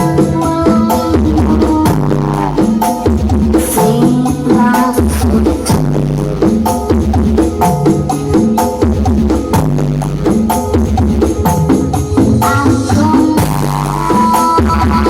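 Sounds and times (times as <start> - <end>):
loud dance music: 0.0 - 15.0.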